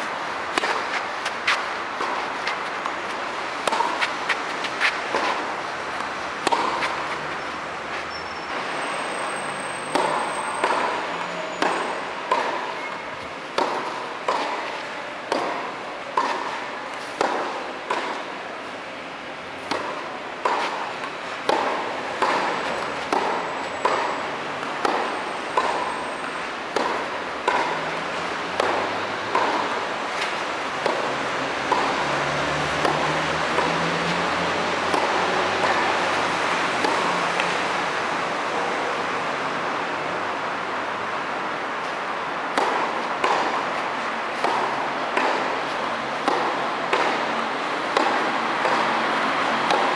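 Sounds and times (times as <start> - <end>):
tennis ball bouncing: 0.0 - 8.2, 9.9 - 18.4, 19.5 - 37.8, 41.8 - 49.9
rackets striking tennis ball: 0.0 - 8.3, 9.9 - 18.4, 19.5 - 38.1, 41.8 - 49.9.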